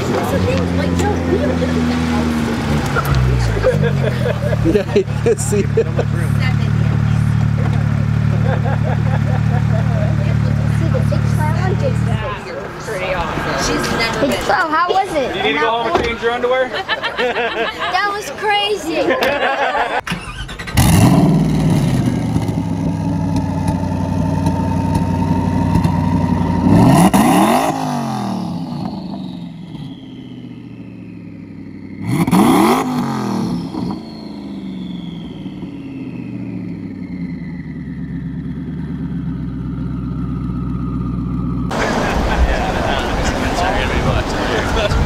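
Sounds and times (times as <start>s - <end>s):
car engine starting and revving: 0.0s - 14.6s, 19.9s - 45.0s.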